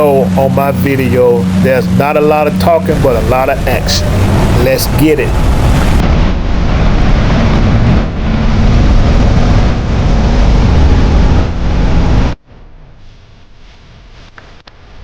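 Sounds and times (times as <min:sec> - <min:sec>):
boat engine: 0:00.0 - 0:12.3
wind rumble on microphone: 0:00.0 - 0:15.0.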